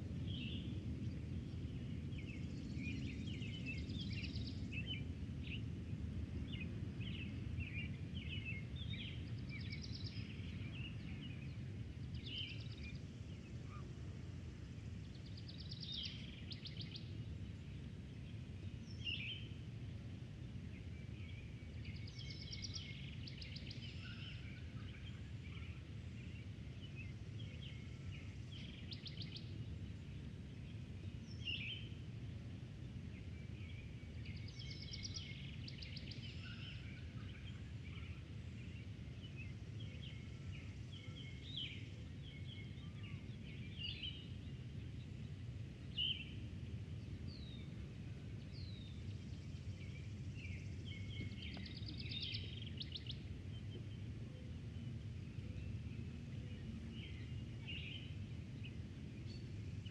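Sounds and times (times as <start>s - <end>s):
low rush of wind: 0.0s - 59.9s
songbirds chirping: 0.0s - 59.9s.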